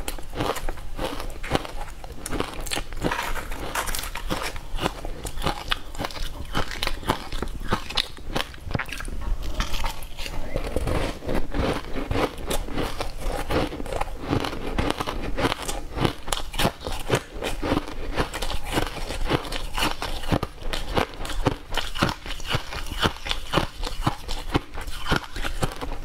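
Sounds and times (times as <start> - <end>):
crushed ice being chewed: 0.0 - 26.0.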